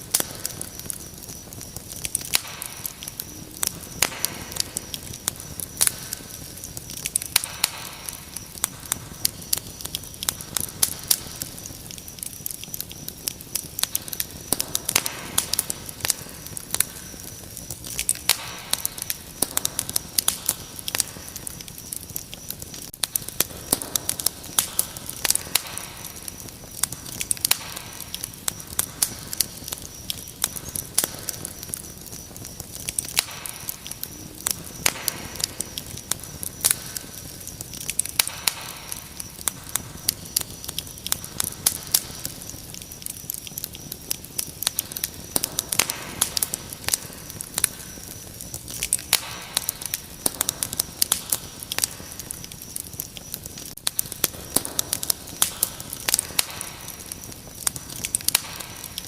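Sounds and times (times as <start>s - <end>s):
cricket trill: 0.0s - 59.0s
wood fire crackling and popping: 0.0s - 59.0s.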